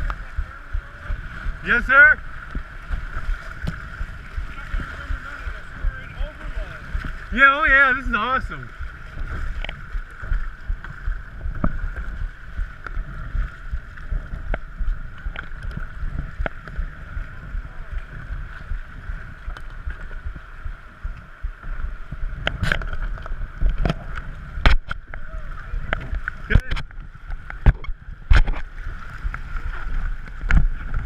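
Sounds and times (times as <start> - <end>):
low rumble: 0.0 - 31.0
paddle knocks and splashes: 0.0 - 31.0.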